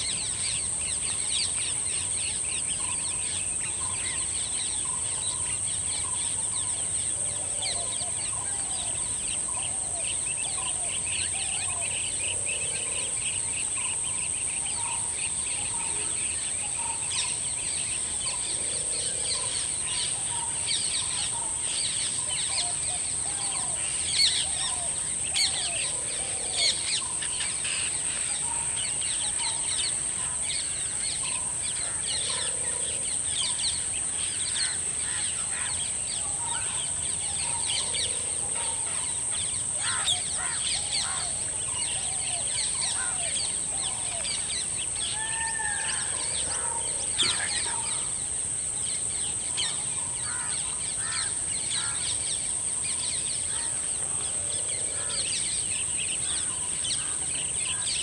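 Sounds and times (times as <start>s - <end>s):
birds chirping and calling: 0.0s - 58.0s
high-pitched insect drone: 0.0s - 58.0s.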